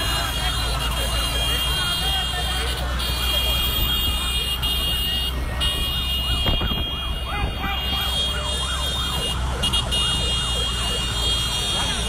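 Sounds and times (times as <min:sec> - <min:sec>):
siren yelping: 0:00.0 - 0:12.0
street noise: 0:00.0 - 0:12.0.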